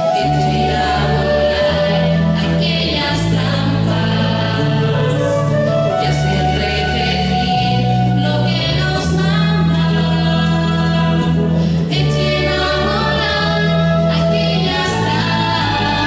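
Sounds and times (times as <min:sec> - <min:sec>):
electric bass guitar: 0:00.0 - 0:16.0
voices singing together: 0:00.0 - 0:16.0.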